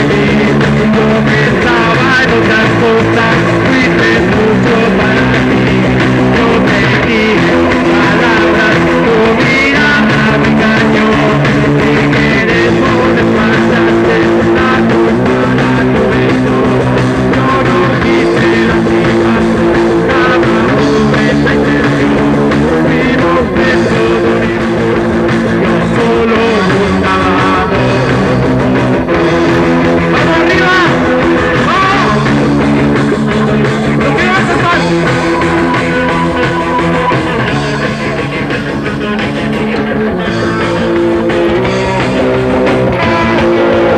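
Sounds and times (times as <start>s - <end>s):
electric guitar chords: 0.0s - 43.9s
live punk rock band: 0.0s - 43.9s.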